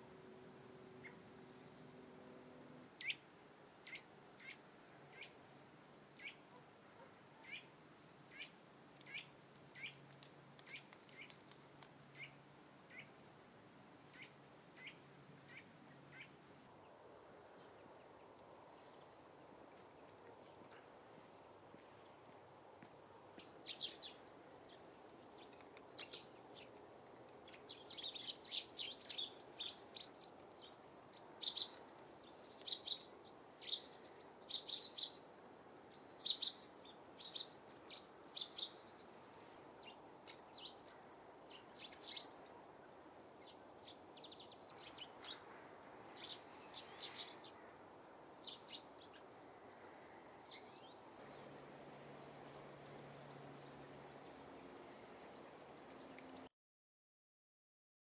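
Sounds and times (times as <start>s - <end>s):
faint background noise: 0.0s - 56.5s
small birds chirping: 3.0s - 3.2s, 3.8s - 5.4s, 6.2s - 13.2s, 14.1s - 56.5s.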